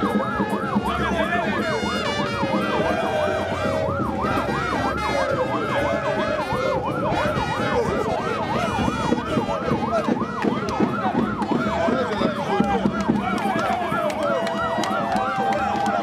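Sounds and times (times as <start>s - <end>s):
police siren yelping: 0.0s - 16.0s.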